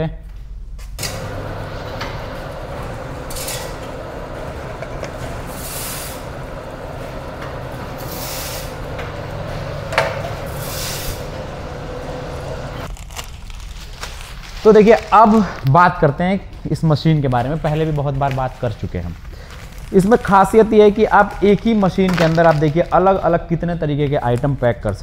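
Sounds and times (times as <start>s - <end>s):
packing machine running: 1.0s - 15.6s, 16.5s - 23.3s.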